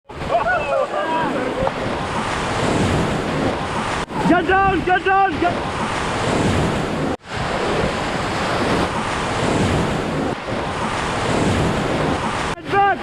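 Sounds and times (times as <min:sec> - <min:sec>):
wind buffeting microphone: 0:00.1 - 0:12.6
rushing whitewater: 0:00.1 - 0:13.0.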